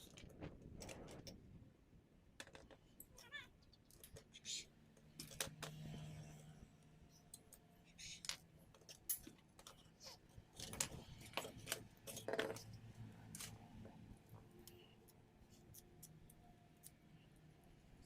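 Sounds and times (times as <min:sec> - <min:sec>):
light clicks and knocks of parts: 0:02.4 - 0:06.1, 0:07.1 - 0:18.0.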